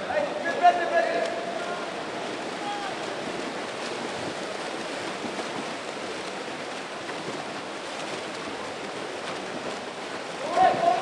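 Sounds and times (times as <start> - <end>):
swimmers splashing water: 0.0 - 11.0.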